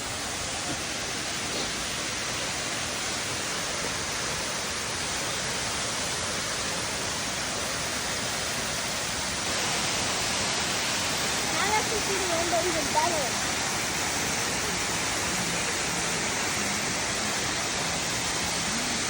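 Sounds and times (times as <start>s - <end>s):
waterfall crashing: 0.0s - 19.0s.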